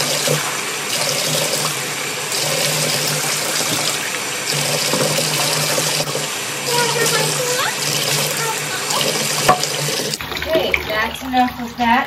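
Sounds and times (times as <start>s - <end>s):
water running into a bathtub: 0.0s - 12.0s.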